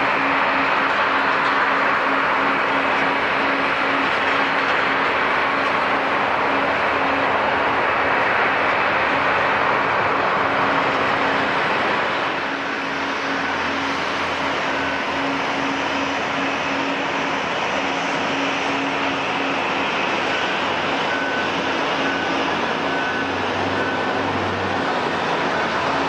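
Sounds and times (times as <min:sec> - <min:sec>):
jet airliner engines running: 0:00.0 - 0:26.0.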